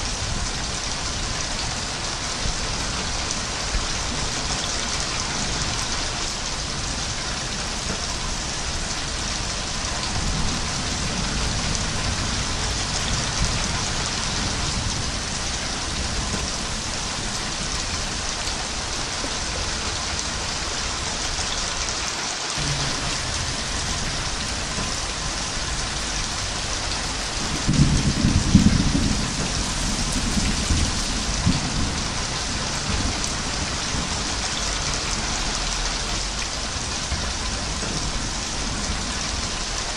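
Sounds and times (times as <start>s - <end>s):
low rumble of thunder: 0.0s - 21.1s, 22.6s - 39.9s
steady rain falling: 0.0s - 39.9s.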